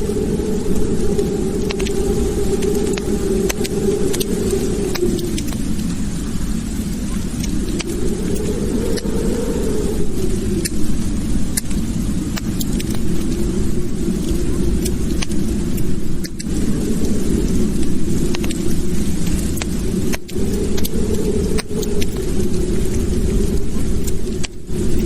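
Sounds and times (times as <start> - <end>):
fire popping and snapping: 0.0 - 25.0
fire roaring: 0.0 - 25.0.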